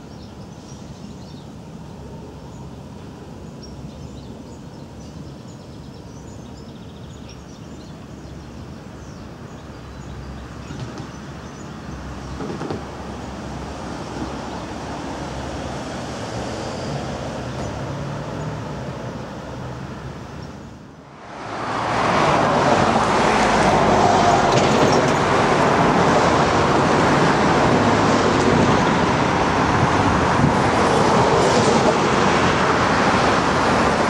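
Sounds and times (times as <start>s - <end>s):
distant trams and road traffic: 0.0s - 34.0s.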